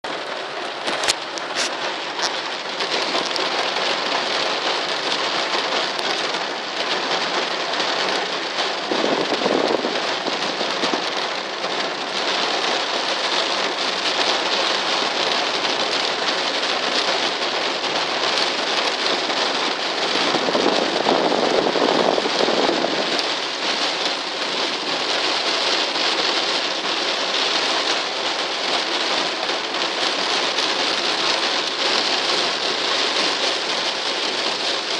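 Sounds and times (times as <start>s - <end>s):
heavy rain pattering: 0.0s - 34.9s.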